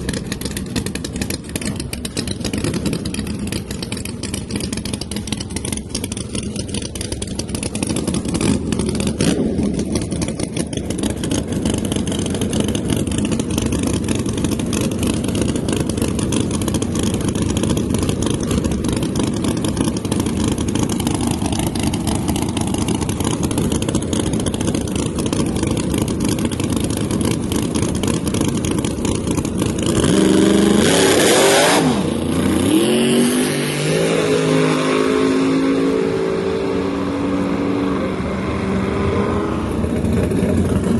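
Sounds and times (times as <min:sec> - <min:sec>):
drag-race car engines running: 0:00.0 - 0:40.9.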